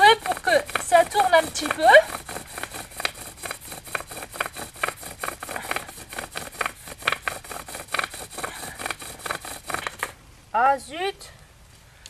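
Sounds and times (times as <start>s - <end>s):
bow drill spindle rasping and squeaking: 0.0s - 10.1s.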